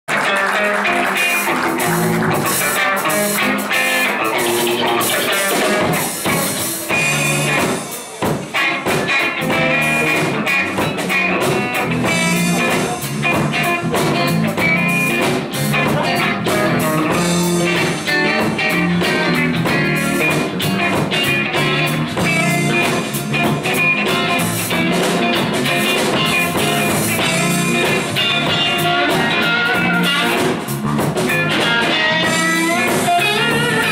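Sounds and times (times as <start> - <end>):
drum kit: 0.1 - 33.9
electric bass: 0.1 - 33.9
electric guitars: 0.1 - 33.9.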